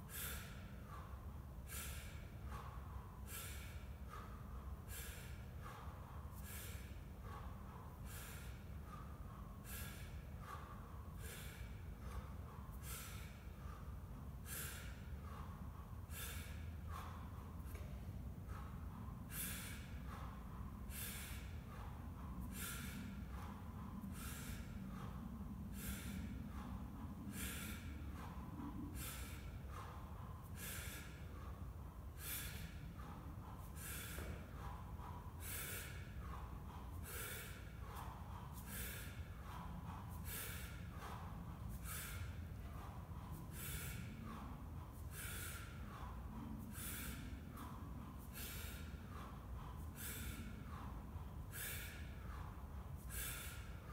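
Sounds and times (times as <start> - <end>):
low steady hum: 0.0 - 53.9
man breathing forcefully: 0.0 - 53.9.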